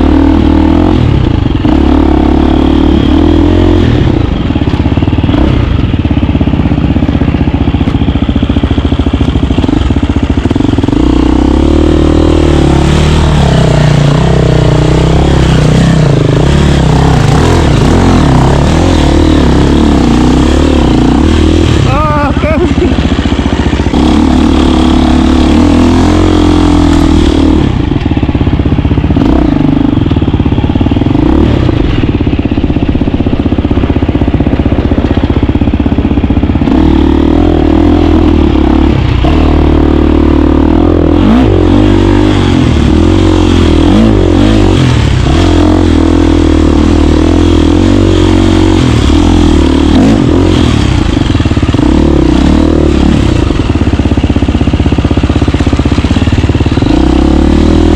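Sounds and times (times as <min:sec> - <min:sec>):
dirt bike engine running: 0:00.0 - 0:57.9.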